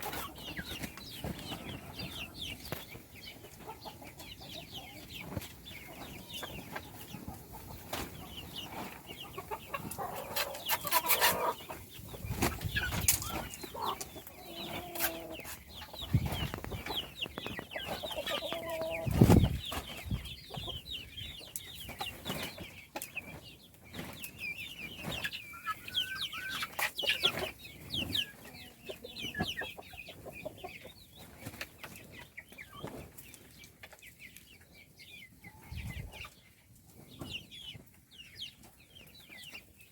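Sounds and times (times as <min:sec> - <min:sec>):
chicks cheeping: 0:00.0 - 0:39.9.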